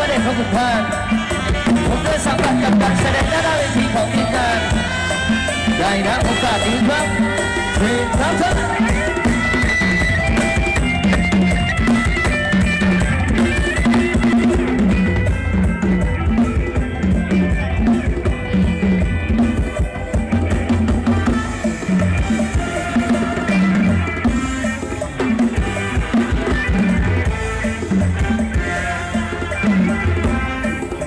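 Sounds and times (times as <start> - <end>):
drum and bass music over loudspeakers: 0.0 - 31.0.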